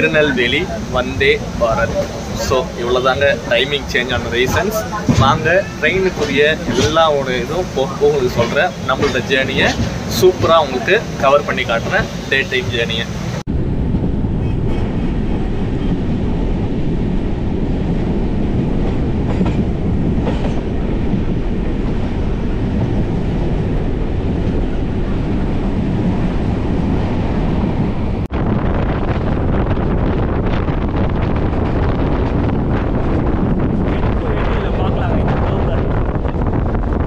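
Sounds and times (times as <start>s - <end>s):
rushing air: 0.0s - 37.0s
train wheels rumbling on rails: 0.0s - 37.0s.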